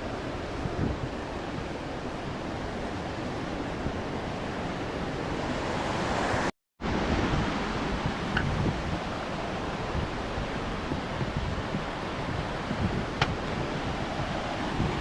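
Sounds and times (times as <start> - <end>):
stream and waterfalls rushing: 0.0 - 15.0.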